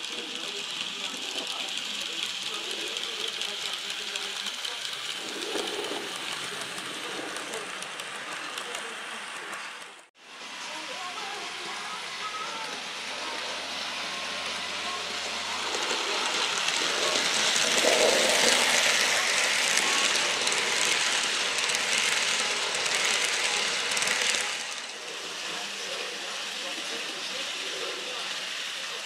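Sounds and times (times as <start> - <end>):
model train wheels rattling on rail: 0.0 - 10.1, 10.9 - 29.0.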